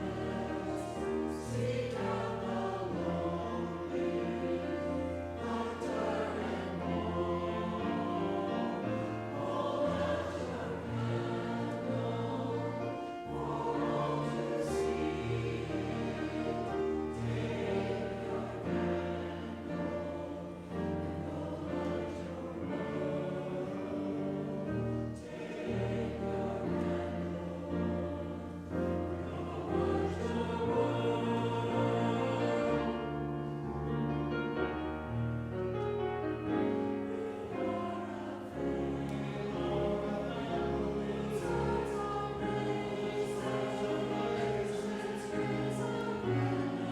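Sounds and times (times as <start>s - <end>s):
choir singing: 0.0s - 46.9s.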